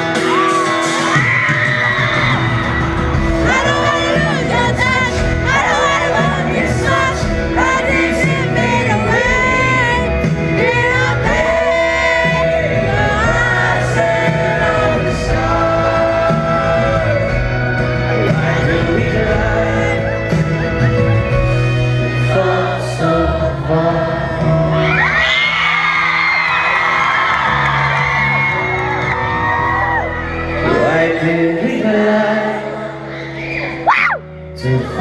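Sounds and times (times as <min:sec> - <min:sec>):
live band with singing: 0:00.0 - 0:35.0.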